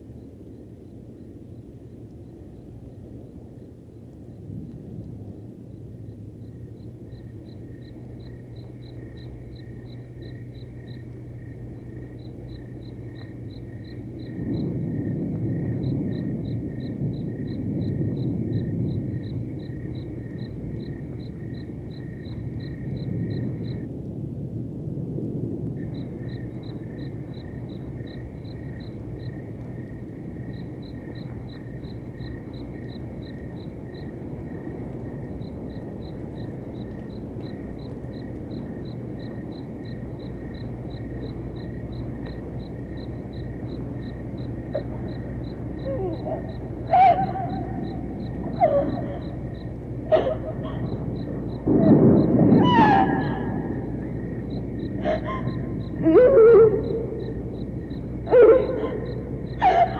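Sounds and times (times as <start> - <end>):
crickets chirping: 0.0 - 59.9
low rumble: 0.0 - 59.9.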